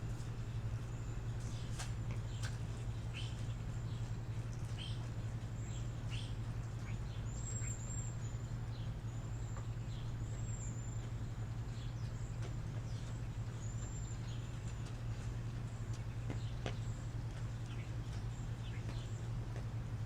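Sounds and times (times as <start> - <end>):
birds chirping: 0.0 - 20.0
steady low hum: 0.0 - 20.0
high falling bird calls: 0.2 - 19.9.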